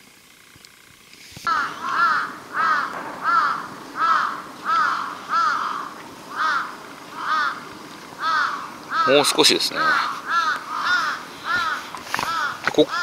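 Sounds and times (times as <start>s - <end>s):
crow cawing: 1.5s - 13.0s.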